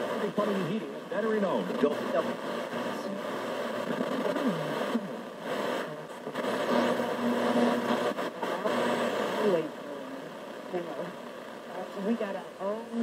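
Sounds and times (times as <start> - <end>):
radio rushing hiss: 0.0 - 13.0
snatches of broadcast sound: 0.0 - 13.0.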